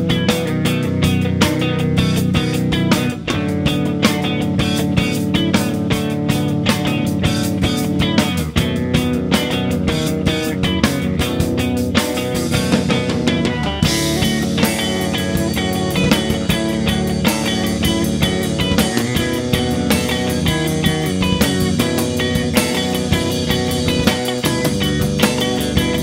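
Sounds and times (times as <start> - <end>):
electric bass: 0.0 - 26.0
electric guitar: 0.0 - 26.0
fast drum pattern: 0.0 - 26.0.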